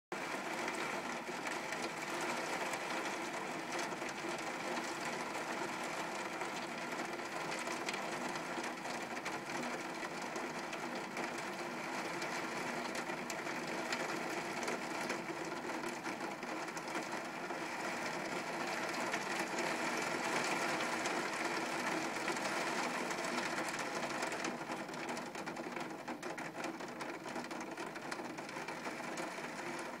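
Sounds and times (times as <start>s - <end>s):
heavy rain falling: 0.2s - 30.0s.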